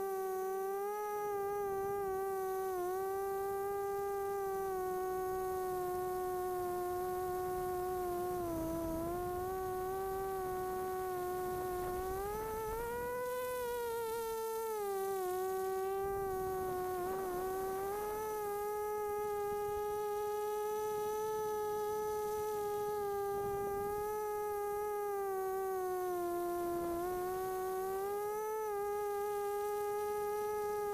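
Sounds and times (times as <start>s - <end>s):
quadcopter motors whining: 0.0s - 30.9s.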